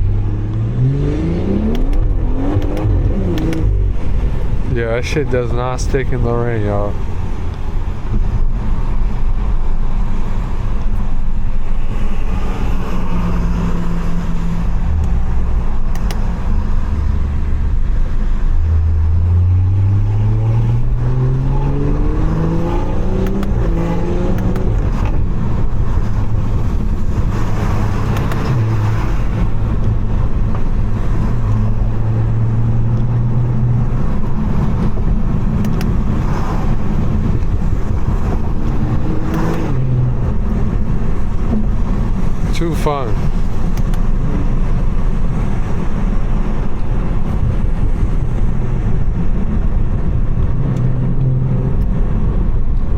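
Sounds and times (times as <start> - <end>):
car engine accelerating: 0.0 - 52.9
road noise inside cabin: 0.0 - 52.9.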